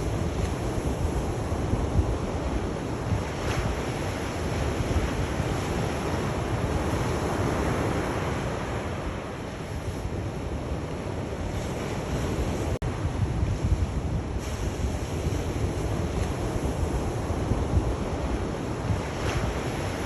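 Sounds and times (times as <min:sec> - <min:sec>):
sea waves washing onto shore: 0:00.0 - 0:20.0
wind rumble on microphone: 0:00.0 - 0:20.0.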